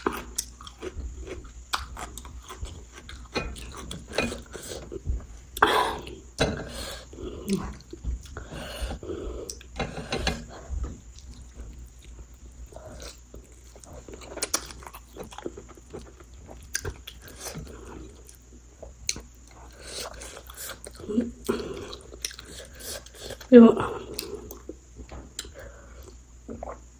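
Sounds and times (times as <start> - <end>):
person chewing crunchy food: 0.0 - 26.9.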